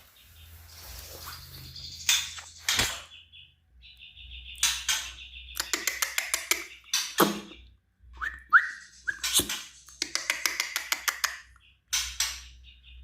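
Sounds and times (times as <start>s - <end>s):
songbird singing whistles and rattles: 0.2s - 13.0s.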